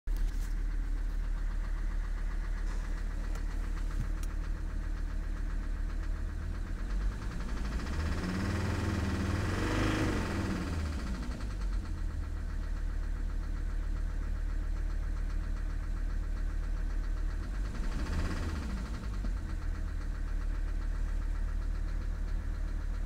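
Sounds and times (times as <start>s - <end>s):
diesel engine knocking: 0.1s - 23.0s.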